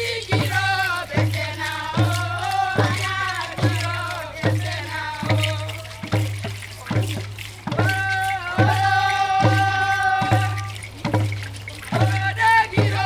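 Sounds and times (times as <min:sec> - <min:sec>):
group of voices singing: 0:00.0 - 0:07.0, 0:07.6 - 0:13.0
steady drum beat: 0:00.0 - 0:13.0.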